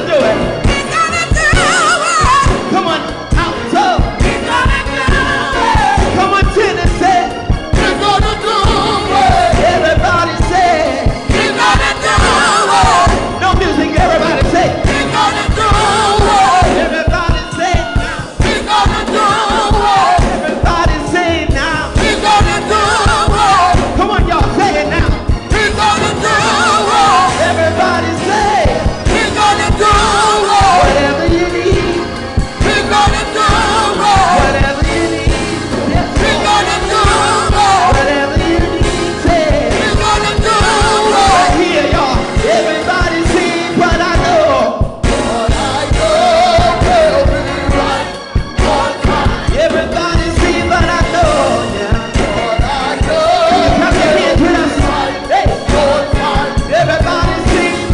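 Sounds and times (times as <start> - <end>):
drums keeping a beat: 0.0 - 57.9
gospel choir singing: 0.0 - 57.9
live band playing: 0.0 - 57.9.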